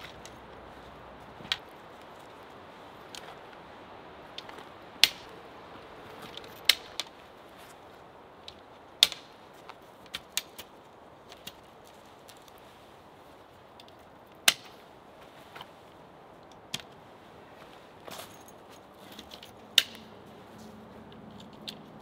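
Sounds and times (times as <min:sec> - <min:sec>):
tent poles clicking and knocking: 0:00.0 - 0:22.0.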